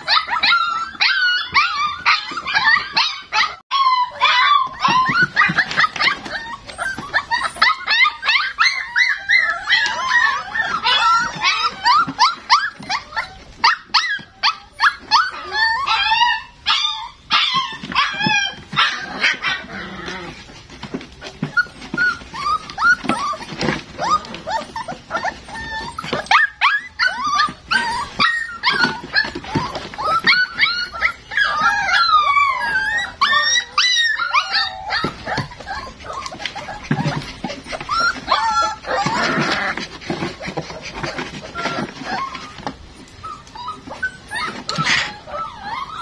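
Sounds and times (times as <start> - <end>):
long falling puppy cry: 0.0 - 46.0
puppies whimpering and yelping: 0.0 - 46.0.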